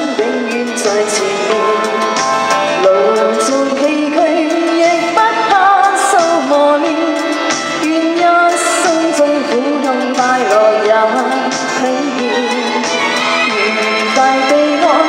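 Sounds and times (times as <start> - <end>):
backing music: 0.0 - 15.0
woman singing into microphone: 0.0 - 15.0.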